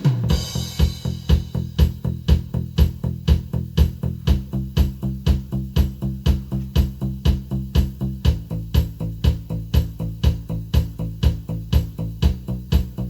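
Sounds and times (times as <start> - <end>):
background music with bass line: 0.0 - 13.0.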